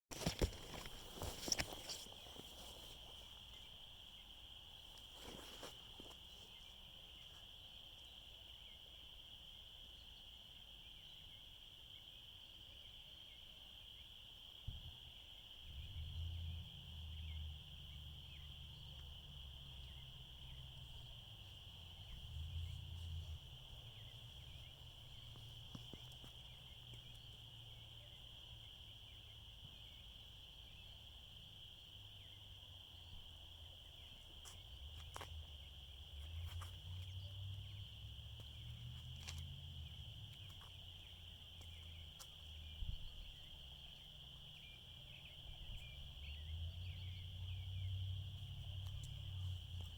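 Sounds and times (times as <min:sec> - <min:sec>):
night insects trilling: 0:00.2 - 0:49.9.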